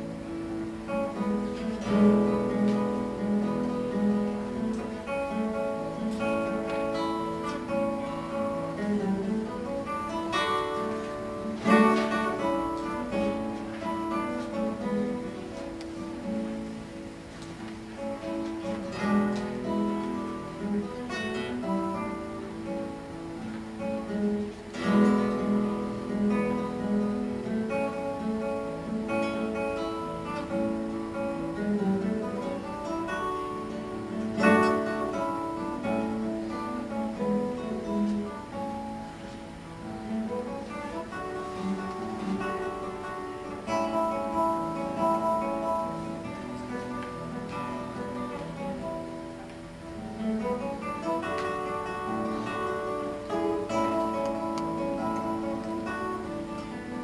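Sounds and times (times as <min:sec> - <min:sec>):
classical guitar fingerstyle: 0:00.0 - 0:57.0.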